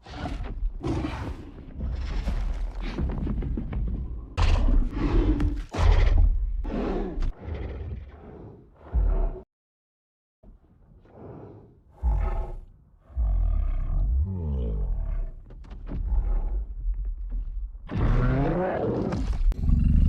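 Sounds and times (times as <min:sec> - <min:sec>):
monster growls and roars: 0:00.0 - 0:03.4, 0:04.3 - 0:09.5, 0:11.0 - 0:20.0.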